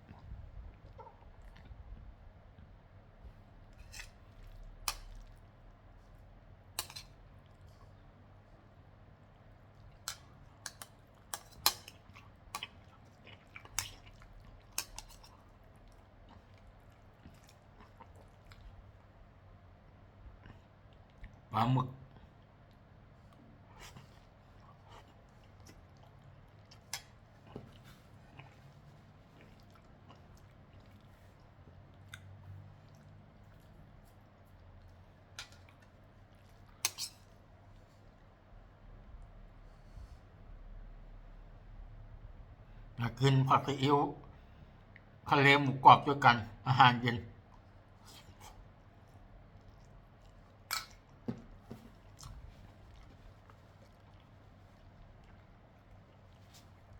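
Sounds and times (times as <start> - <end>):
faint eating sounds: 0.0 - 56.9.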